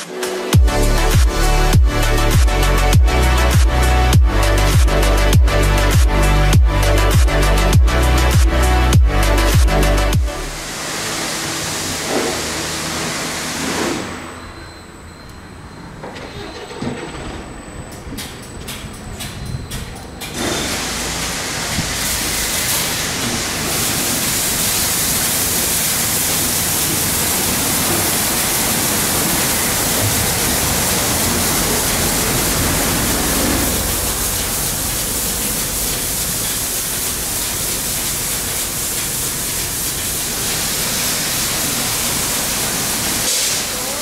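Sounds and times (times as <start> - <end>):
car wash spray jets hissing: 0.0 - 15.0, 20.3 - 44.0.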